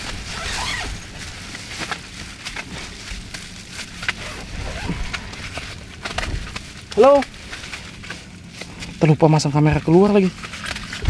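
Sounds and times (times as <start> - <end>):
soft rustling of handling: 0.0 - 11.0.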